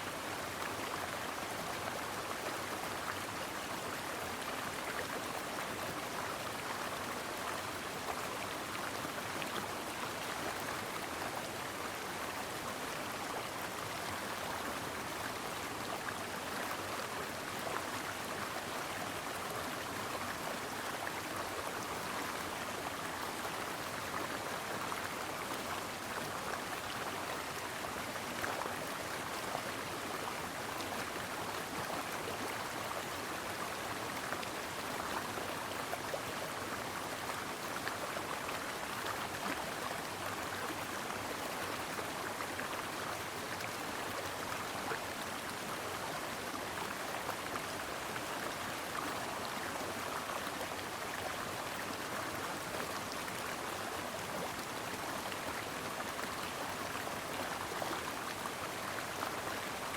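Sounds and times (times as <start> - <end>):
brook babbling over rocks: 0.1 - 59.9.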